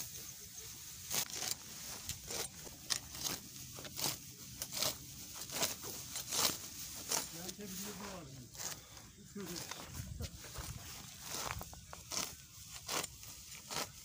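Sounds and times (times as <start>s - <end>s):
grass being torn by hand: 0.7s - 14.0s.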